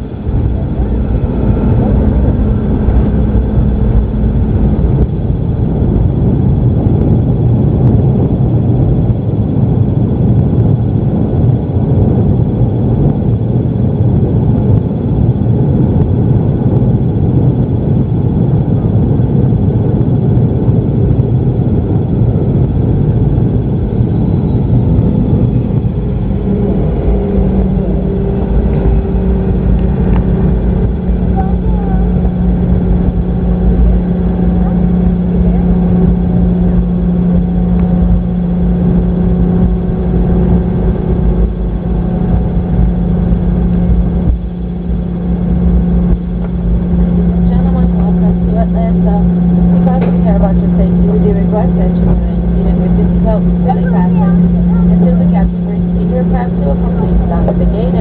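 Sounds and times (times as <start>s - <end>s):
jet engines rumbling in cabin: 0.0s - 58.0s
low hum: 0.0s - 58.0s.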